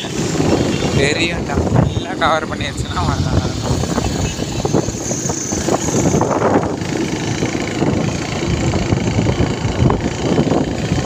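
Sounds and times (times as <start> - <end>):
motorbike engine running: 0.0 - 11.0
road noise: 0.0 - 11.0
wind buffeting microphone: 0.0 - 11.0.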